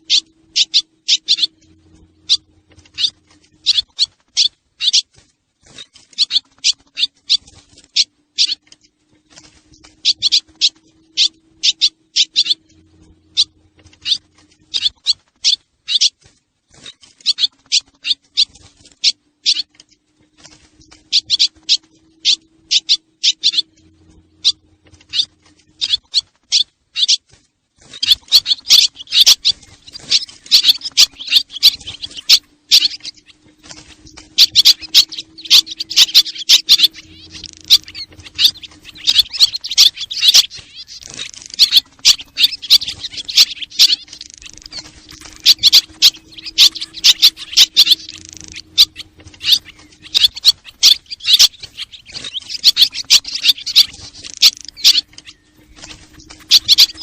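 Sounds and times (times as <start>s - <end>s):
faint steady hum: 0.0s - 57.0s
swallows twittering: 0.0s - 57.0s.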